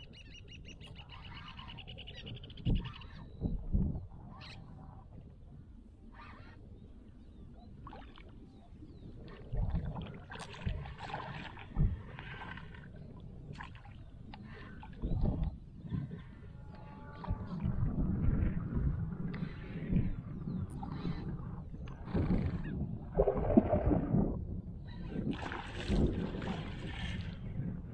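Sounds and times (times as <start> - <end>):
wind rumble on microphone: 0.0 - 27.9.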